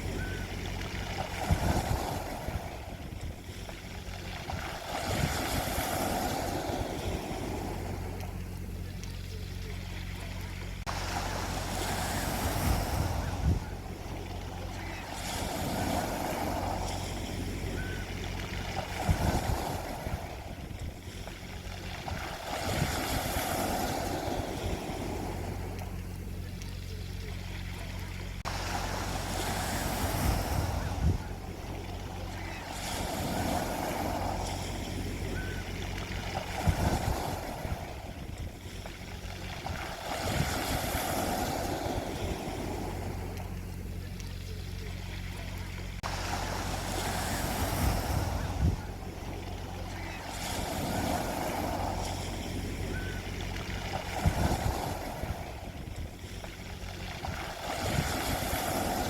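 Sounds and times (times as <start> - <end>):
sea waves breaking on shore: 0.0 - 59.0
steady low rumble: 0.0 - 59.0.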